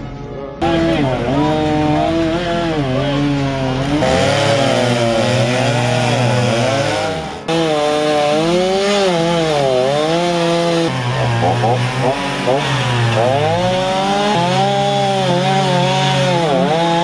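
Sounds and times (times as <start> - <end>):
chainsaw cutting logs: 0.6 - 17.0.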